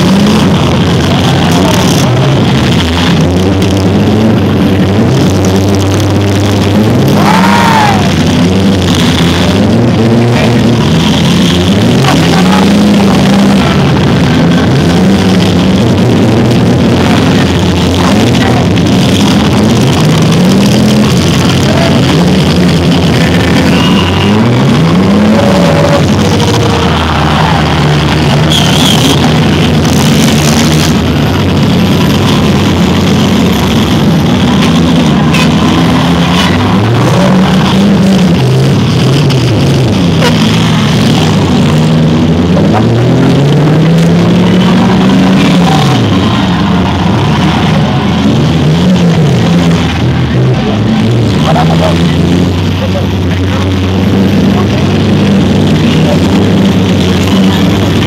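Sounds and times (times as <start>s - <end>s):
car engines revving: 0.0s - 58.0s
rock music: 0.0s - 58.0s.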